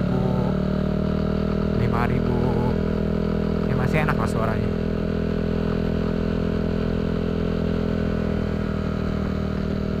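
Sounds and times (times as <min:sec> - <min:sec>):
scooter engine running: 0:00.0 - 0:10.0.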